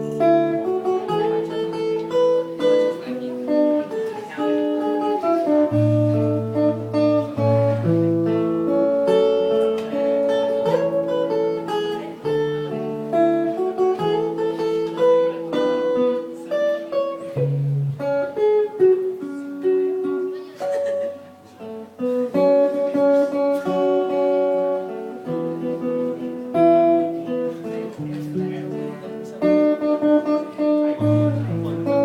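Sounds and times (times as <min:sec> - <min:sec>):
acoustic guitar playing: 0:00.0 - 0:32.0.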